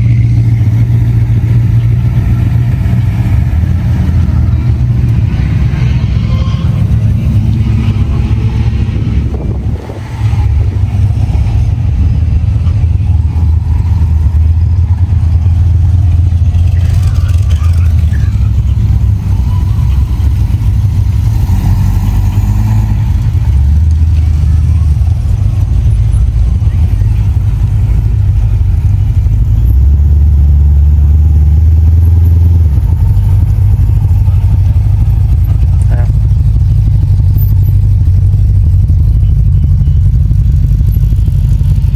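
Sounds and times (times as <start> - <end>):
car engine exhaust rumble: 0.0 - 41.9.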